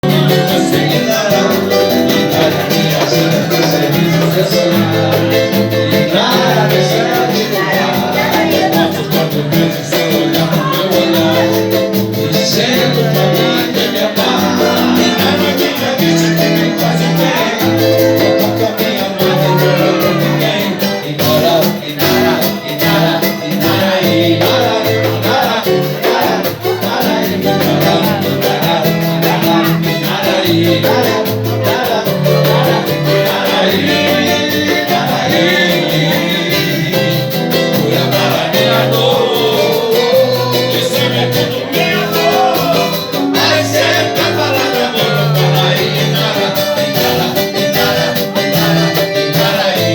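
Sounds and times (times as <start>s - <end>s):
band playing latin music: 0.0s - 49.9s
person singing: 0.0s - 49.9s.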